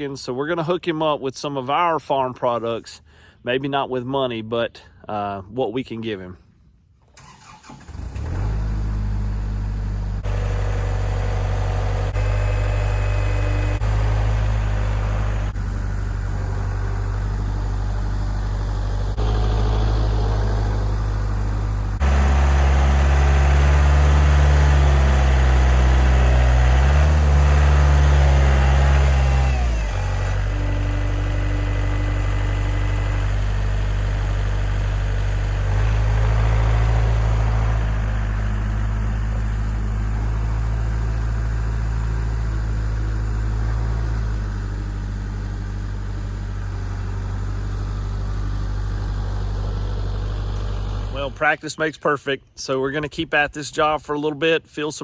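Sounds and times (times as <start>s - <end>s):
tractor diesel engine running: 7.0s - 53.9s.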